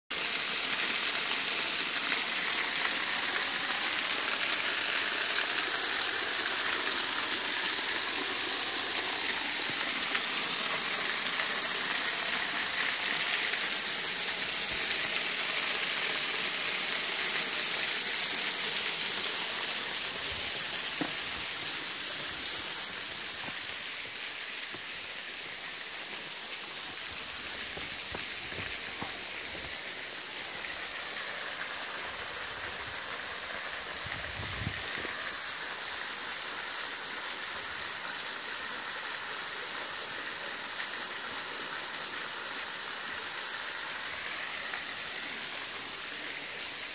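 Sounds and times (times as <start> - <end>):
small waterfall splashing on rocks: 0.1 - 46.9.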